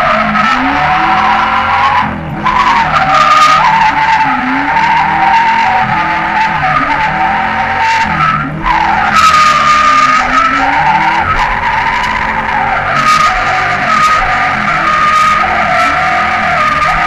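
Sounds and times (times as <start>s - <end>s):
engine at high revs: 0.0s - 17.0s
tyres squealing: 0.0s - 17.0s.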